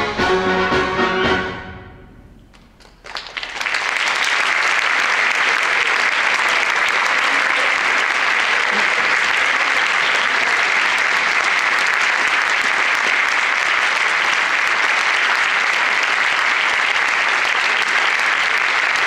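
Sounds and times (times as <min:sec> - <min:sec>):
audience applauding: 0:02.5 - 0:19.0.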